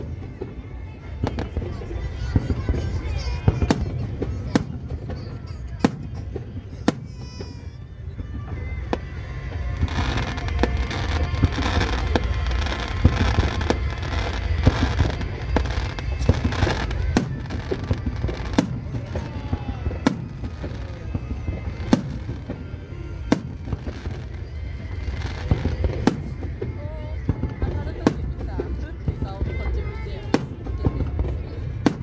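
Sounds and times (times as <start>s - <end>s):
firework bangs: 0.0s - 32.0s
music playing: 0.0s - 32.0s.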